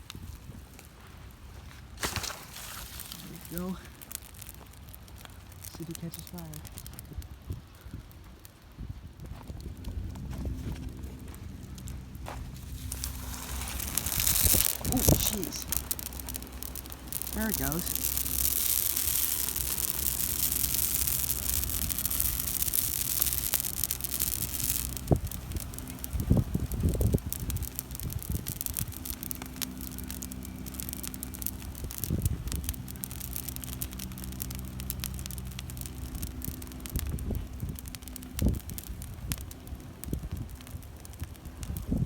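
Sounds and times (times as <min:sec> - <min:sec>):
fire hissing and crackling: 0:00.0 - 0:42.0
faint low hum: 0:06.8 - 0:42.0
wind buffeting microphone: 0:07.0 - 0:42.0.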